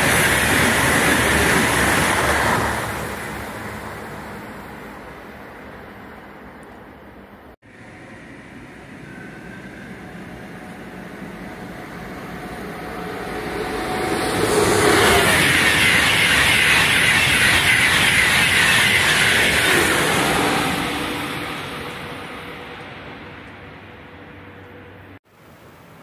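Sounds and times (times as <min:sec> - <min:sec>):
high-speed train passing: 0:00.0 - 0:25.2.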